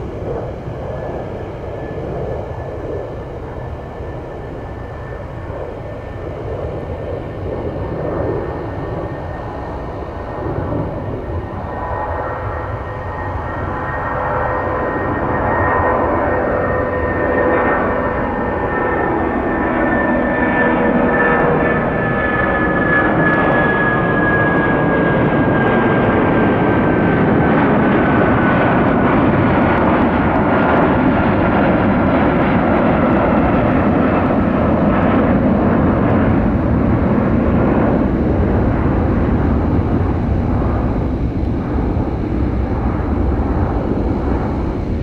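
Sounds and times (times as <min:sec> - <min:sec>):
airliner engines whining: 0:00.0 - 0:45.0.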